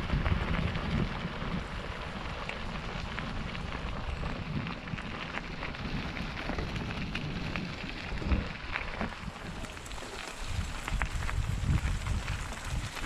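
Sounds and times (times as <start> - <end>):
rain pattering: 0.0 - 13.0
wind buffeting microphone: 0.0 - 13.0.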